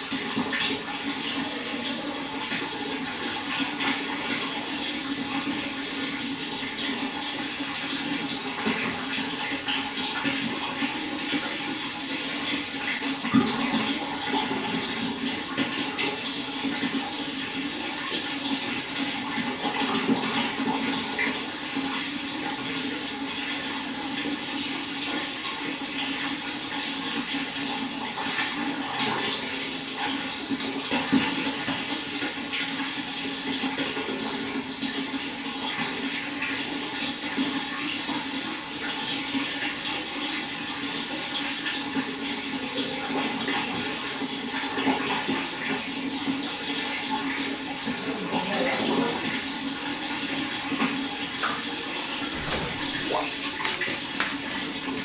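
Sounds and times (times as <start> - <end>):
water flowing and splashing: 0.0 - 55.0.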